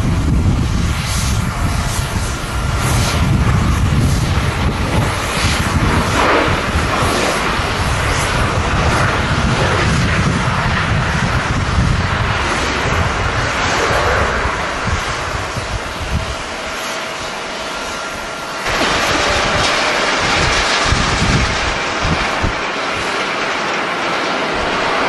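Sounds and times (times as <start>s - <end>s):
jet engines roaring: 0.0s - 25.0s
wind rumbling on microphone: 0.0s - 25.0s.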